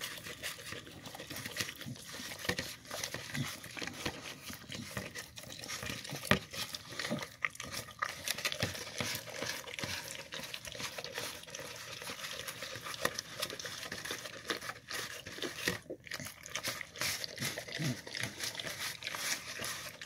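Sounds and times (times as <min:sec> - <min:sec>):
dog smacking and licking food: 0:00.0 - 0:20.0.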